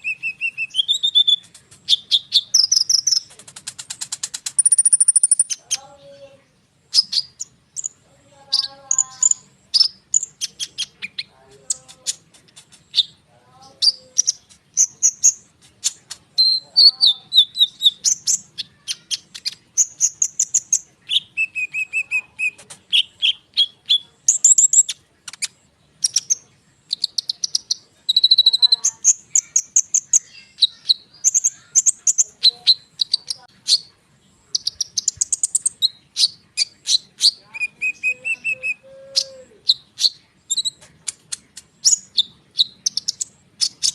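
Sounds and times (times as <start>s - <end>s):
sunbird singing rapid trills: 0.0s - 43.9s.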